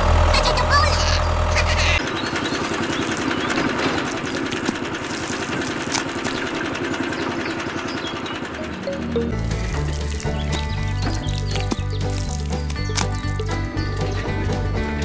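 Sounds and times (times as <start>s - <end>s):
heavy low hum: 0.0s - 15.0s
small engine running: 0.0s - 15.0s.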